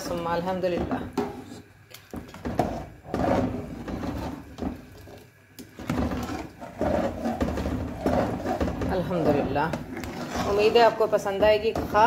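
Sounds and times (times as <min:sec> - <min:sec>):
curry sloshing: 0:00.0 - 0:12.0
ladle scraping a steel pot: 0:02.3 - 0:12.0.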